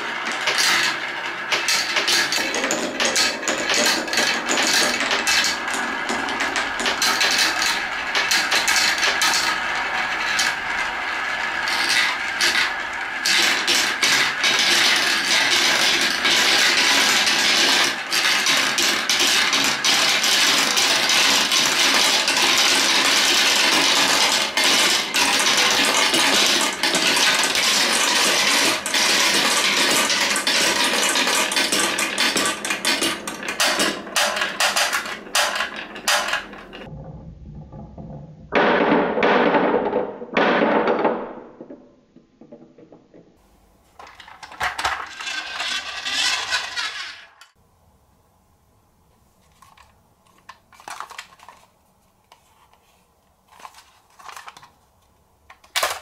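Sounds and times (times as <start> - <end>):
marbles rolling and clattering: 0.0 - 43.4, 44.0 - 47.6, 55.5 - 56.0.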